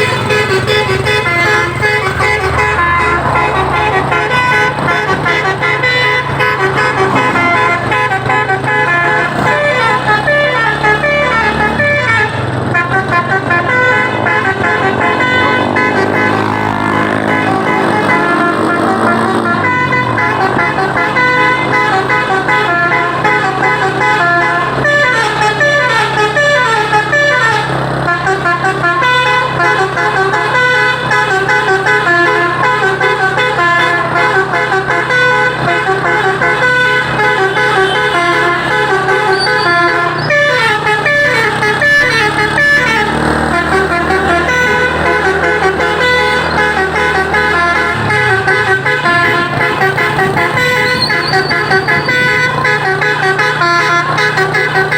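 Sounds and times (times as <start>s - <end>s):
multi-tone horn melody: 0.0s - 54.9s.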